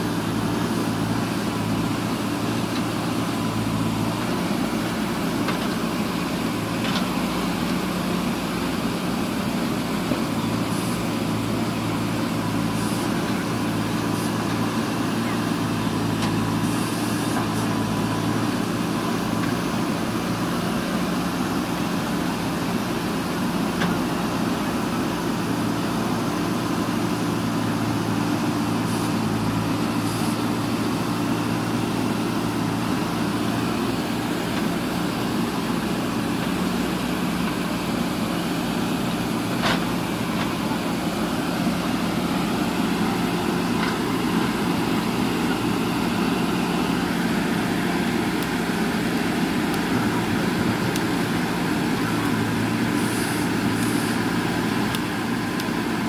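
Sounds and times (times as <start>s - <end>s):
backhoe diesel engine drone: 0.0s - 56.0s.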